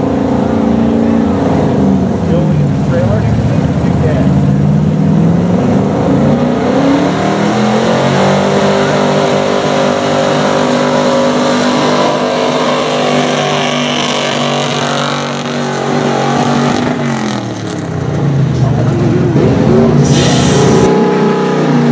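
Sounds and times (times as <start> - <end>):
pickup engine at full throttle: 0.0 - 21.9.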